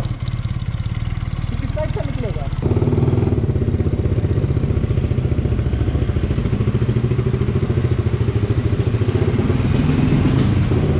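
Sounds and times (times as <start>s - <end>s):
motorcycle engine pulsing: 0.0s - 10.9s.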